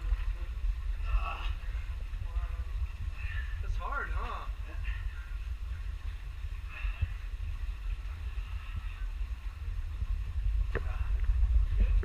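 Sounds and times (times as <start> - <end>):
faint voices: 0.0 - 12.0
wind buffeting microphone: 0.0 - 12.0.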